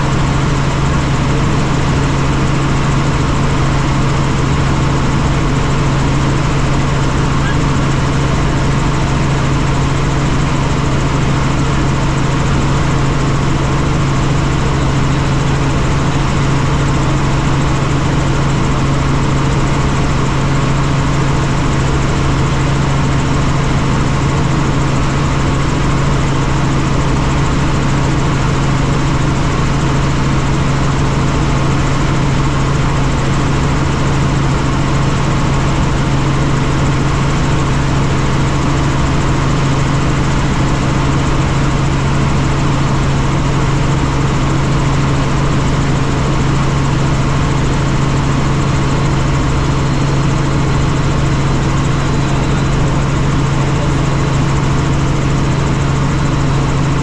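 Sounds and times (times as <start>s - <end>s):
helicopter rotor and engine noise: 0.0s - 57.0s.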